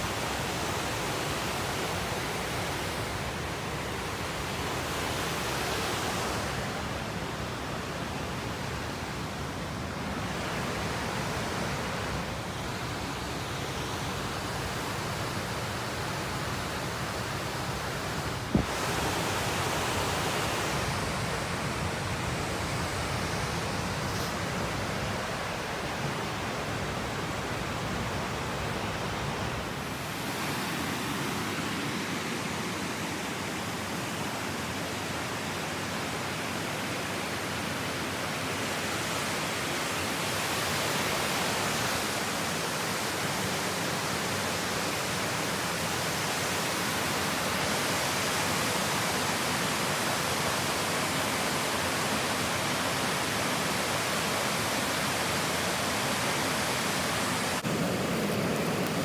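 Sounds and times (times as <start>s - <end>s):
fast-running water rushing: 0.0s - 59.0s.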